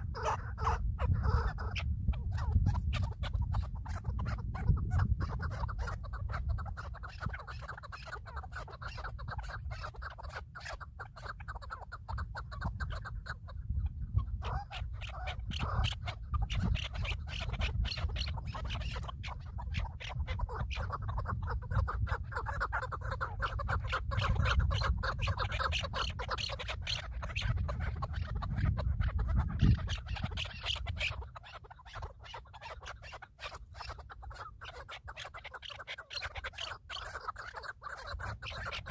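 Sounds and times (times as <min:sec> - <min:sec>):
birds chattering: 0:00.0 - 0:38.9.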